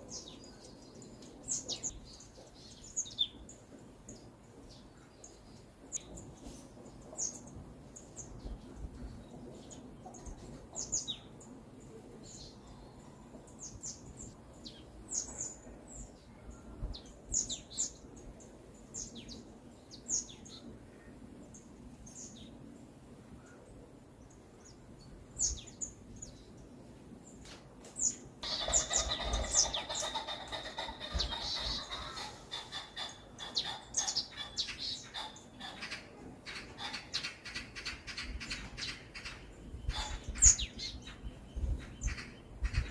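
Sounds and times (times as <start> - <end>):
small songbirds chirping: 0.0 - 22.8, 23.4 - 42.9
forest background: 0.0 - 42.9.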